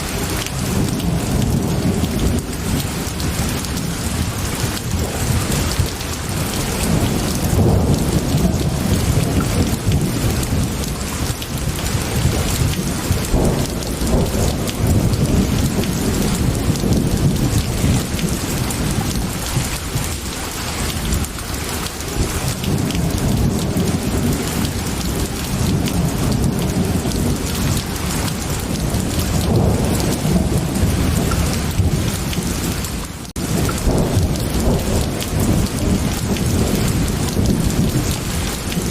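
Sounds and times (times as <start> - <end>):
heavy rain: 0.0 - 38.9
low rolling thunder: 0.0 - 38.9.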